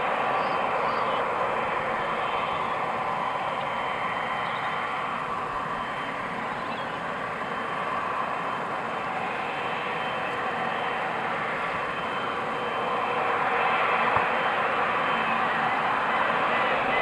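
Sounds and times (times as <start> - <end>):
jet engines rushing hiss: 0.0 - 17.0.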